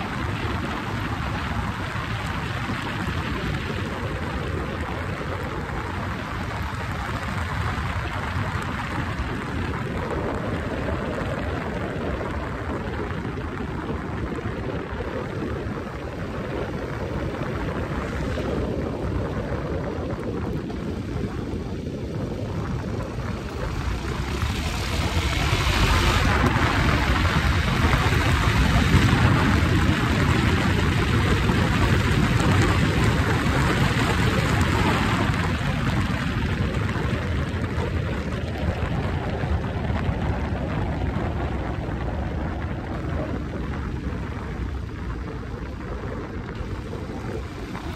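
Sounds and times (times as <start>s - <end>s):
motorcycle engine drone: 0.0s - 47.9s
wind rushing over microphone: 0.0s - 47.9s.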